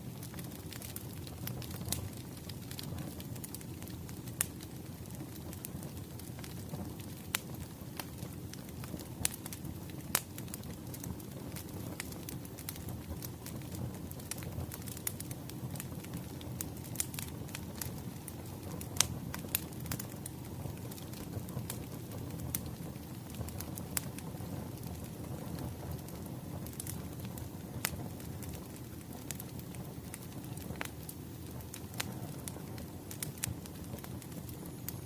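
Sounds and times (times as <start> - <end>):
low rumble of flames: 0.0 - 35.0
wood fire crackling: 0.0 - 35.0.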